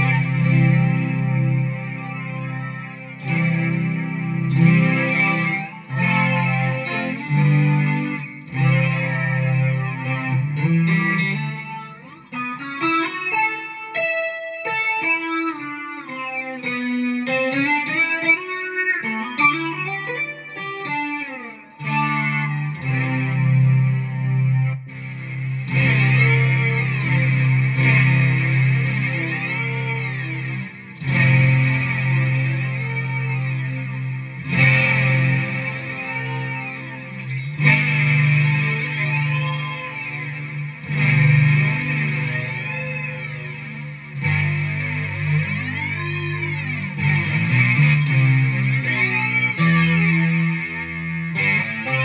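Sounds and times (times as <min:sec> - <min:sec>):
electric guitar with synth effect: 0:00.0 - 0:52.0.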